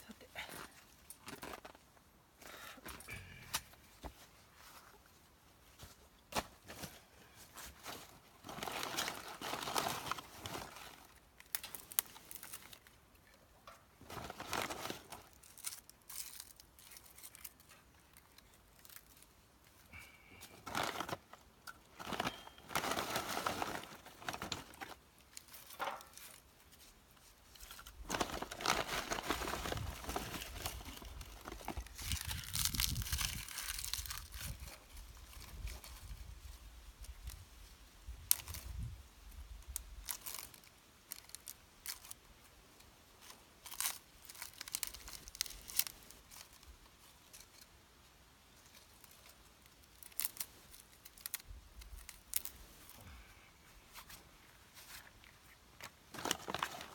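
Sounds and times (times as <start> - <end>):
dry rustling and crumpling: 0.4 - 3.2, 4.0 - 47.8, 48.5 - 56.9.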